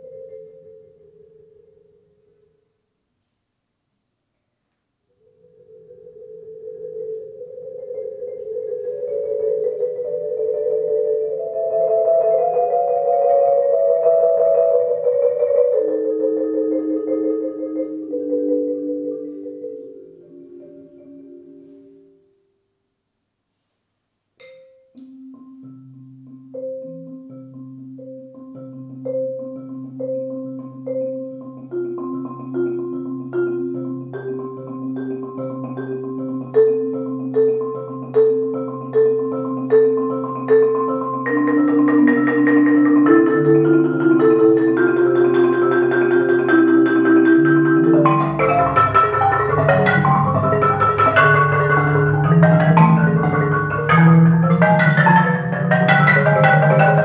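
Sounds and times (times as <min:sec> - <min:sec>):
marimba played with mallets: 0:00.0 - 0:02.0, 0:05.3 - 0:22.2, 0:24.4 - 0:57.0.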